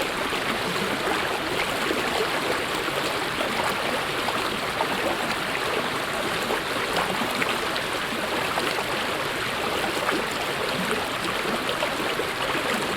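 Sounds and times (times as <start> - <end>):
stream babbling over rocks: 0.0 - 12.9.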